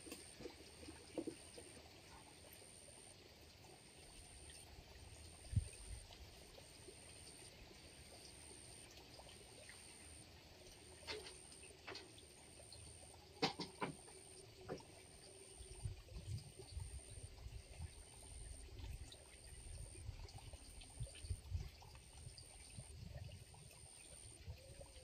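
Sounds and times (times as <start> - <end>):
water trickling into pond: 0.0 - 25.0.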